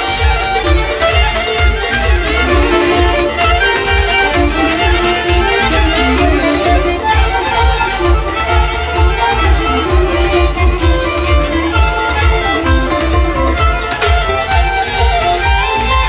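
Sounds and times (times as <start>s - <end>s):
steady low beat: 0.0s - 16.0s
violin melody: 0.0s - 16.0s.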